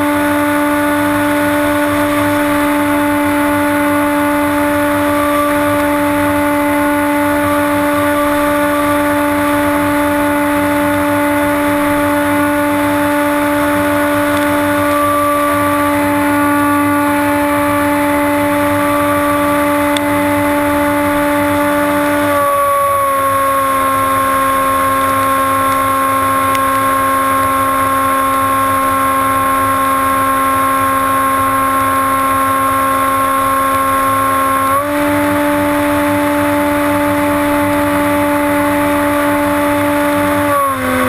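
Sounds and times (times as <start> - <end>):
electric motor and propeller whine: 0.0 - 41.0.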